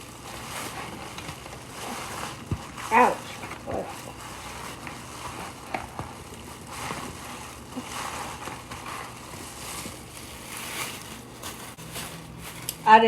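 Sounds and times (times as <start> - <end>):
raw meat squelching: 0.0 - 12.8
plastic bag crinkling: 0.0 - 13.0.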